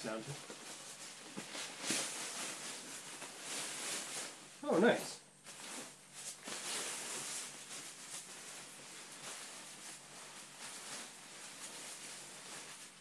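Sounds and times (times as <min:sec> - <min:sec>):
fabric rustling and swishing: 0:00.0 - 0:04.6, 0:05.5 - 0:13.0.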